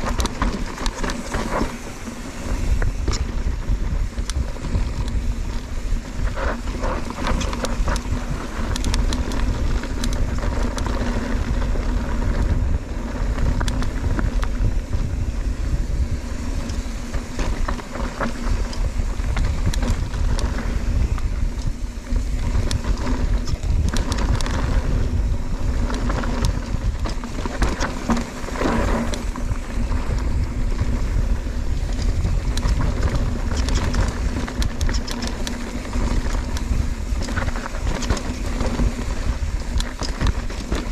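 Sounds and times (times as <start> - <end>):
bike clattering over bumps: 0.0 - 40.9
bike tyre noise: 0.0 - 40.9
wind rumbling on microphone: 0.0 - 40.9.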